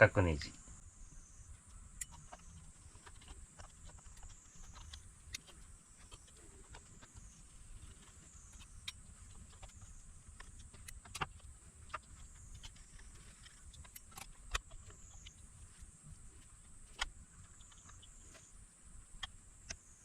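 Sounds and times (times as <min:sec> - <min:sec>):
small tools clicking and tapping: 0:01.6 - 0:18.5.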